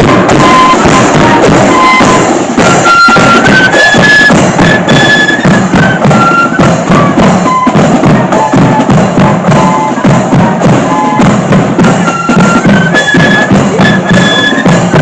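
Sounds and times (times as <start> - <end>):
flutes playing melody: 0.0 - 15.0
snare and bass drums: 0.0 - 15.0.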